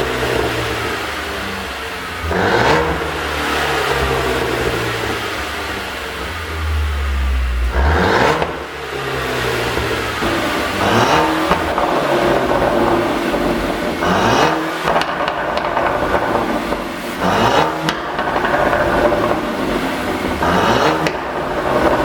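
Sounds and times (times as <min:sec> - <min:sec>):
car engine revving: 0:00.0 - 0:22.0
exhaust pops and bangs: 0:02.2 - 0:22.0.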